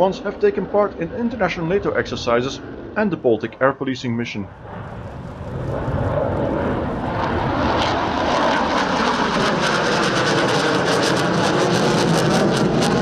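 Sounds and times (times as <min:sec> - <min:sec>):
jet fighter flying by: 0:00.0 - 0:13.0
jet engine crackle: 0:00.2 - 0:13.0.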